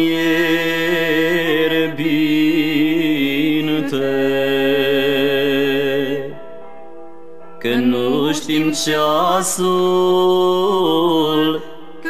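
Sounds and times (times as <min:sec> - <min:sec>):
person singing slow devotional song: 0:00.0 - 0:12.0.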